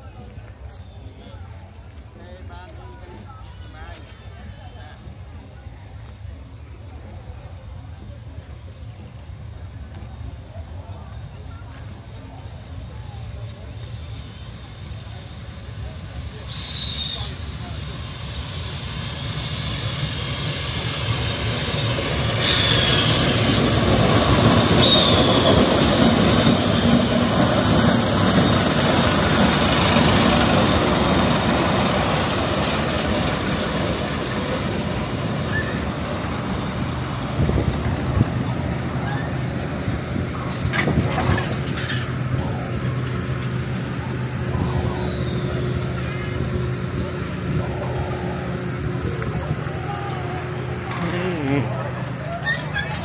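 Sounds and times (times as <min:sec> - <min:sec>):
locomotive engine humming: 0:00.0 - 0:53.0
train wheels on rails: 0:00.0 - 0:53.0
brakes squealing: 0:03.2 - 0:05.4, 0:11.3 - 0:53.0.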